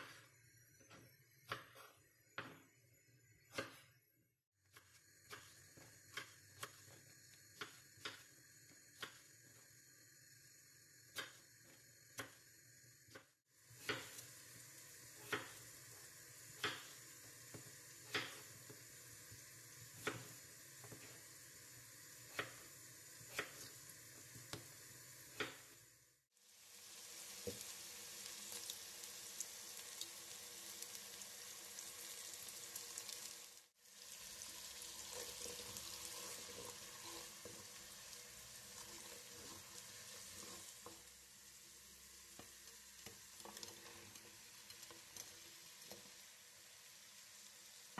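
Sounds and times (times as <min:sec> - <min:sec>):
food sizzling in a pan: 0:04.6 - 0:47.9.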